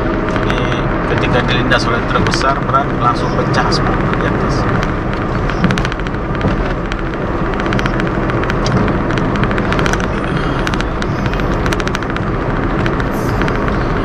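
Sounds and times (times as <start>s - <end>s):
car road and wind noise: 0.0s - 14.0s
sharp ticks: 0.3s - 14.0s.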